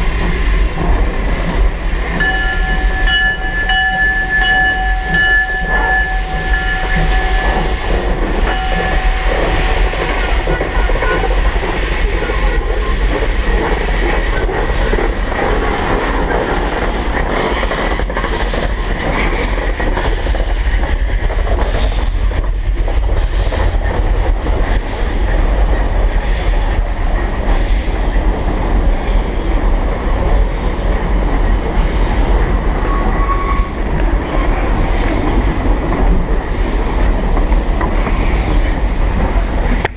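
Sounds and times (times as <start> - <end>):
steam locomotive rumbling and clattering: 0.0 - 39.9.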